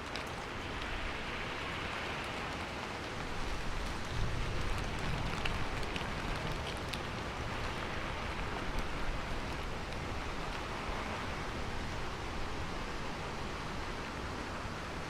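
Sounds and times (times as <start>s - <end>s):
rain falling on a roof: 0.0s - 15.0s.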